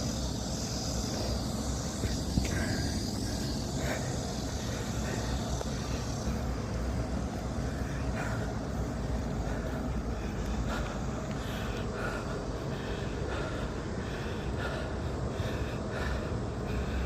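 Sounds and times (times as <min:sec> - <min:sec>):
cicada buzzing: 0:00.0 - 0:17.0.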